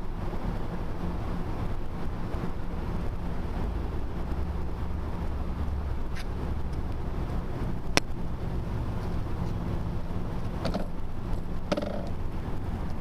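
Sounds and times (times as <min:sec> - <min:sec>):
bicycle tyre and wind rumble: 0:00.0 - 0:13.0.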